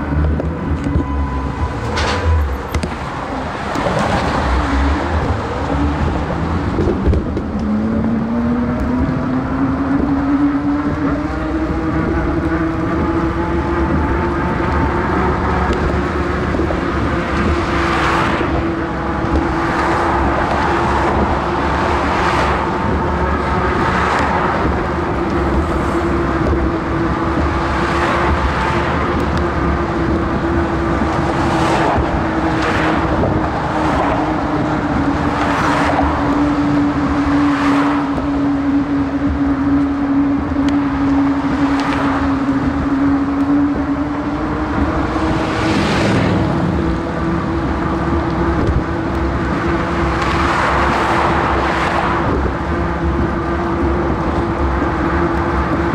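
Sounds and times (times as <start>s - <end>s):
cars and trucks passing: 0.0s - 55.9s
constant low whine: 0.0s - 55.9s
wind and road noise: 0.0s - 55.9s.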